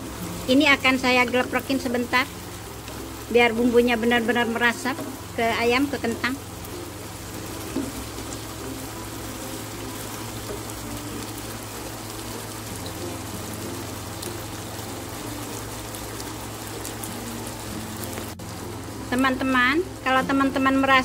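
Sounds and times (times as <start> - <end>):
sauce bubbling and sizzling in a wok: 0.0 - 21.0.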